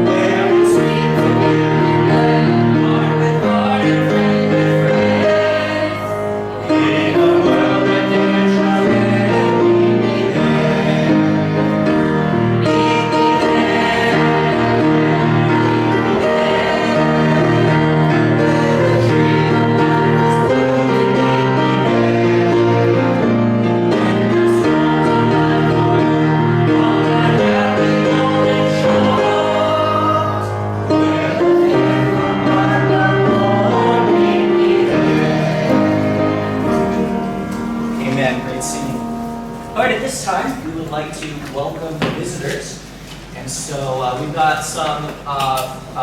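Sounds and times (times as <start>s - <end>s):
instrumental accompaniment: 0.0s - 42.2s
congregation singing a hymn: 0.0s - 46.0s.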